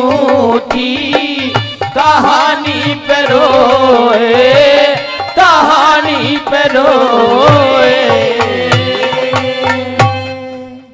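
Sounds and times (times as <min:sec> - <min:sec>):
hand drum beats: 0:00.0 - 0:10.5.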